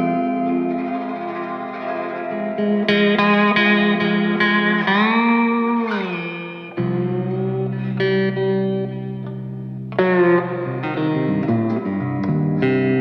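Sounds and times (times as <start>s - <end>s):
instrumental music with ringing notes: 0.0s - 13.0s.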